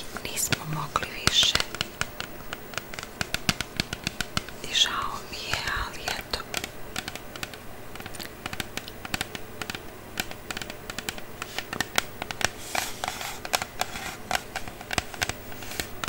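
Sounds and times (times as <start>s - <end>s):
fingernails tapping on hard object: 0.3s - 16.0s.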